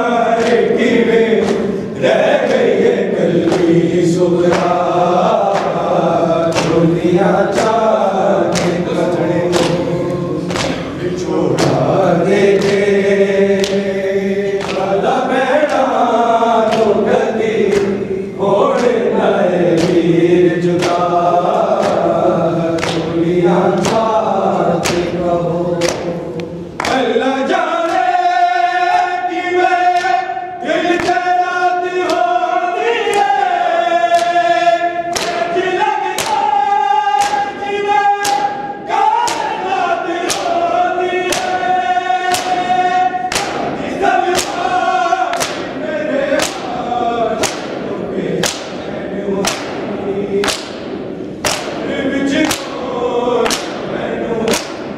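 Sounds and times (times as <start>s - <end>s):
men chanting in unison: 0.0s - 54.9s
rhythmic chest-beating strikes: 0.0s - 54.9s.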